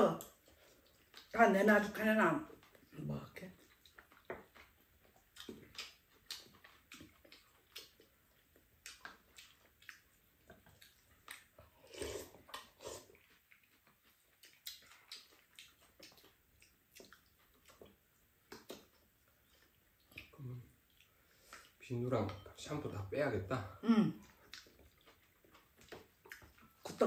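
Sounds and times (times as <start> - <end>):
slurping and chewing: 0.2 - 1.4, 2.5 - 22.5, 24.2 - 27.0.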